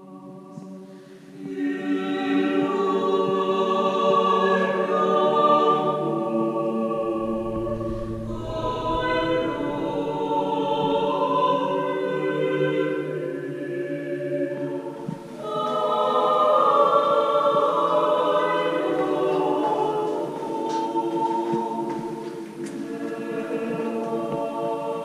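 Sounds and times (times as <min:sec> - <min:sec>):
choir singing chant: 0:00.0 - 0:25.0.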